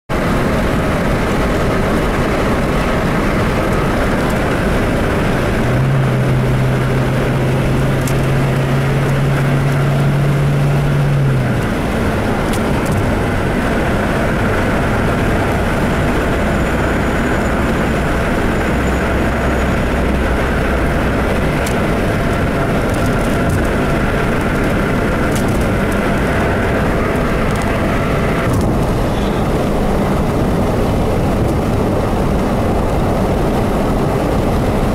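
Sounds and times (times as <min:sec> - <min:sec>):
car cabin road noise: 0:00.1 - 0:34.9.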